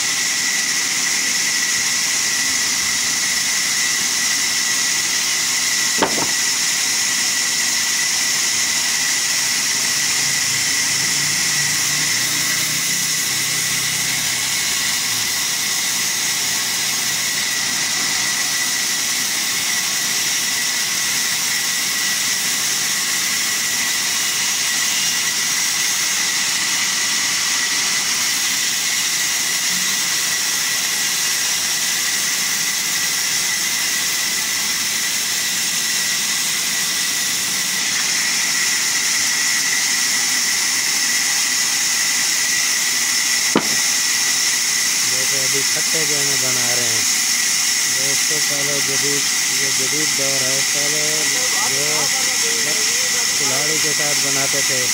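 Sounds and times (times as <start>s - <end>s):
band saw cutting log: 0.0s - 54.9s.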